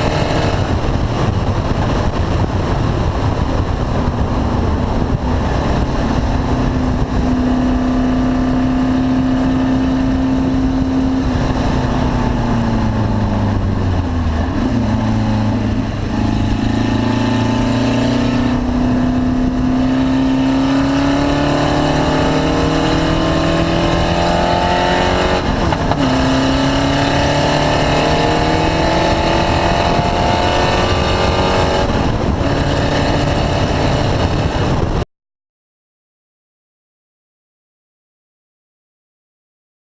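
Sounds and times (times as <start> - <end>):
race car engine revving: 2.3 - 34.8.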